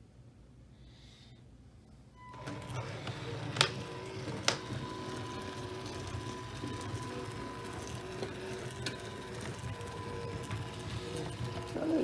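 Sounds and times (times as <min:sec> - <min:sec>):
model train motor humming: 0:02.3 - 0:12.0
wheels clicking on track: 0:02.4 - 0:12.0.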